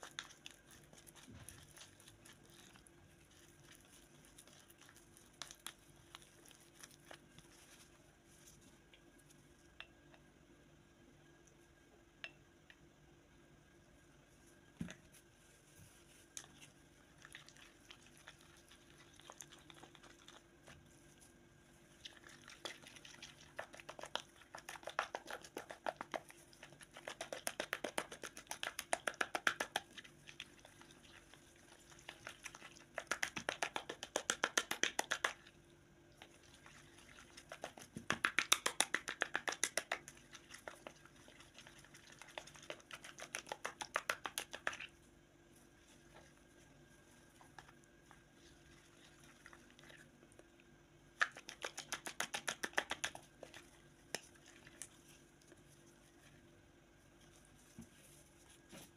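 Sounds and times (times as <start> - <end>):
spoon stirring thick paste: 0.0 - 10.3, 14.8 - 58.9.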